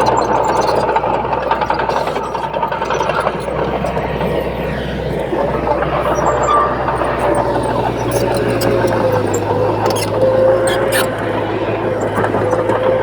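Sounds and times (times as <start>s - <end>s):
heavy diesel machinery running: 0.0s - 13.0s.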